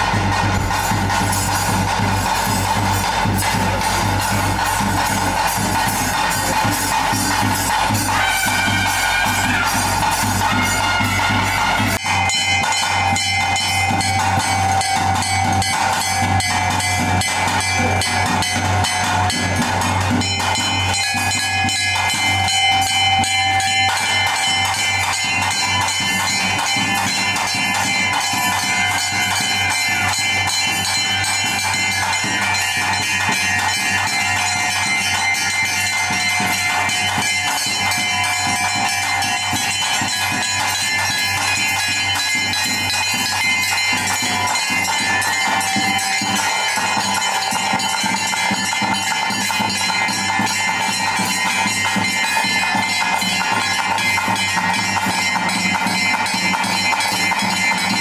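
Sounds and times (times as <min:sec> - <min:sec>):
bells and metal percussion: 0:00.0 - 0:58.0.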